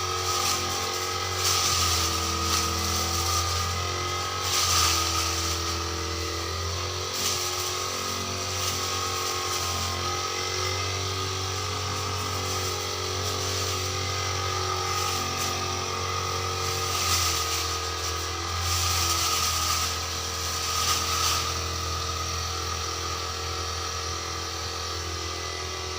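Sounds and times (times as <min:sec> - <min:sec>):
brush cutter engine running: 0:00.0 - 0:25.9.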